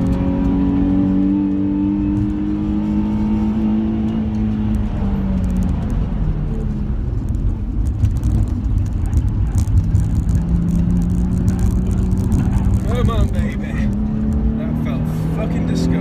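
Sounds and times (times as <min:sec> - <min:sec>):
car engine from inside cabin: 0:00.0 - 0:16.0
tyre and road noise: 0:00.0 - 0:16.0.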